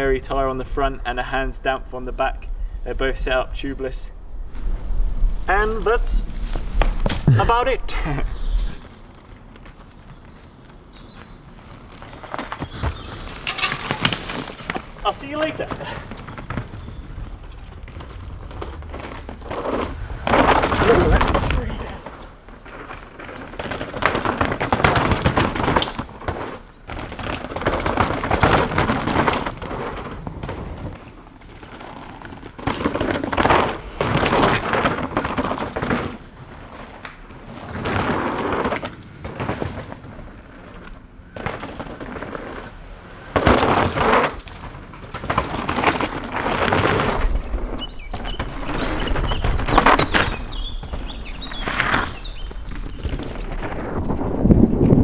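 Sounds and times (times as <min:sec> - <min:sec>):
bike tyres crunching on gravel: 0:00.0 - 0:54.2.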